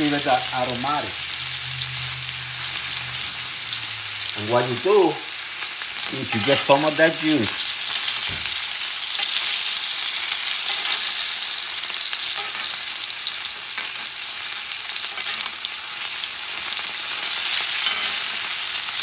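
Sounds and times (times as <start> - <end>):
steak sizzling on a grill: 0.0 - 19.0.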